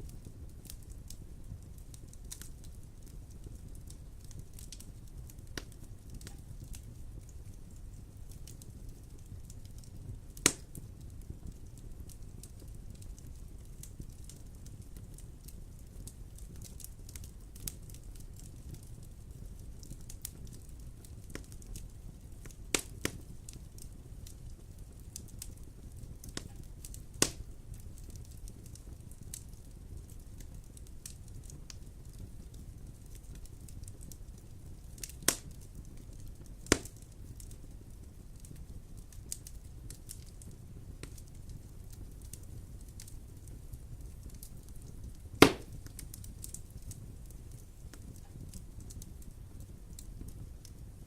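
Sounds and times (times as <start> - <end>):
fire crackling: 0.0 - 51.0
wood fire rumbling: 0.0 - 51.0
loud fire pops: 0.2 - 50.8.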